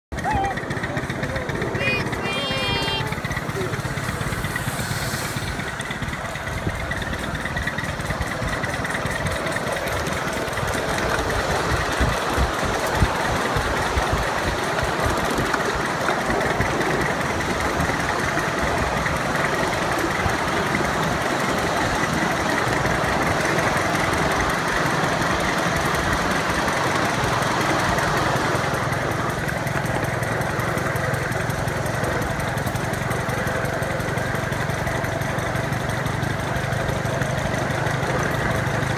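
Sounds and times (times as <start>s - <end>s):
miniature train engine running: 0.1s - 38.9s
train cars rattling over rails: 0.1s - 38.9s.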